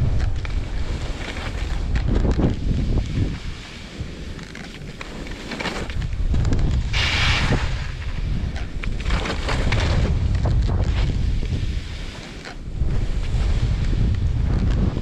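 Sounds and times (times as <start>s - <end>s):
ski edges scraping: 0.0s - 15.0s
wind buffeting microphone: 0.0s - 15.0s
skis hissing over snow: 0.3s - 15.0s.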